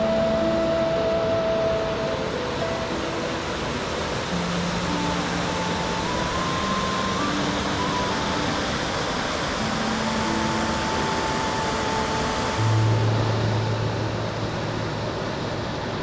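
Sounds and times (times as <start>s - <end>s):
soft slow music: 0.0s - 16.0s
waterfall rushing: 0.0s - 16.0s.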